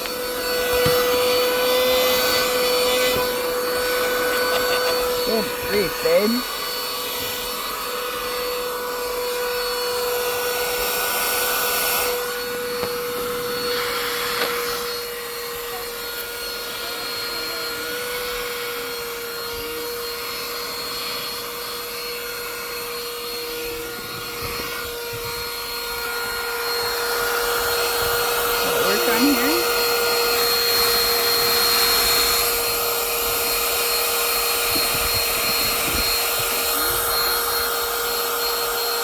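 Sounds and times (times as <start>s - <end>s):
handheld vacuum running: 0.0s - 39.0s.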